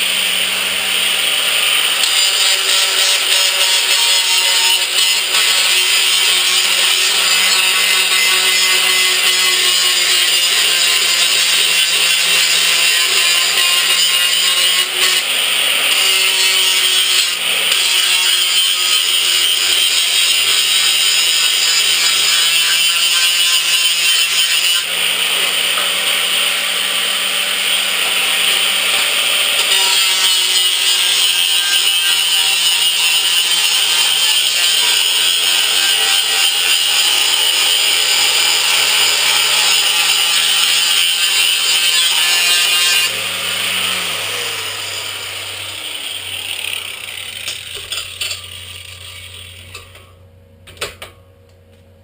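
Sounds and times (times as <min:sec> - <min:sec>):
power tool cutting sheet steel: 0:00.0 - 0:50.1.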